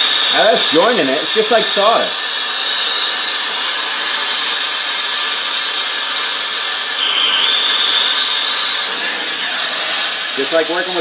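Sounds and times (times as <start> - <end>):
gas torch hissing: 0.0 - 11.0
high whine: 0.0 - 11.0.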